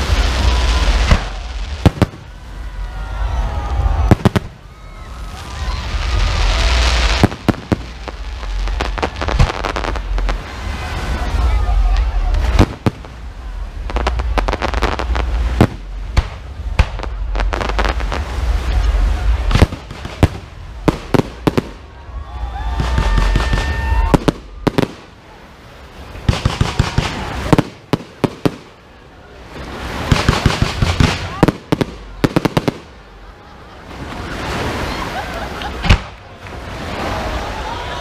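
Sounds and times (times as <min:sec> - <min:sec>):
deep fireworks booms: 0:00.0 - 0:25.3, 0:26.1 - 0:28.8, 0:29.8 - 0:33.3
fireworks bangs and crackling: 0:00.0 - 0:33.3, 0:35.6 - 0:37.6.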